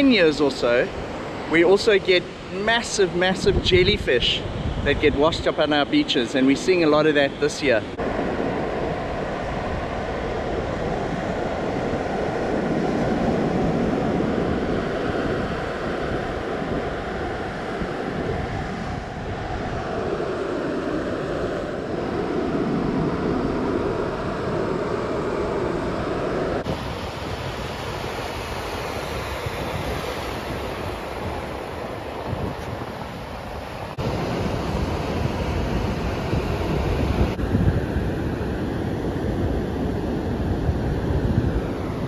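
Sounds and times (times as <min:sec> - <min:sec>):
ocean surf breaking: 0:00.0 - 0:42.0.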